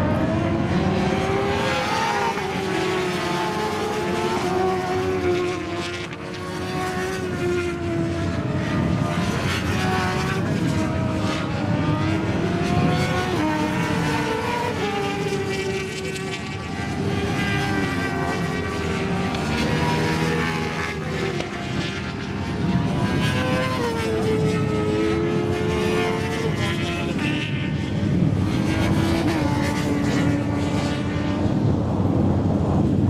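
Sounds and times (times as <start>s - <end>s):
distant motorbikes: 0.0s - 33.0s
racing motorbike engines revving: 0.0s - 33.0s.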